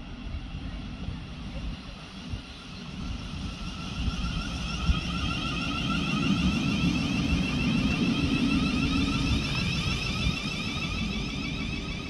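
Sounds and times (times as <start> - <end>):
electric train whine: 0.0 - 12.0
train wheels rumbling on rails: 0.0 - 12.0.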